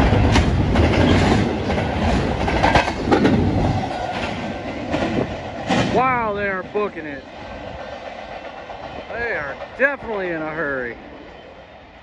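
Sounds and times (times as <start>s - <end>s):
clickety-clack at rail joints: 0.0s - 12.0s
train wheels rushing on rails: 0.0s - 12.0s.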